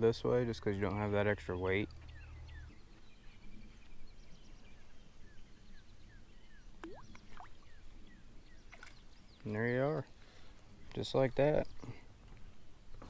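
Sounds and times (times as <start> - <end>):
bird chirps: 1.4 - 13.0.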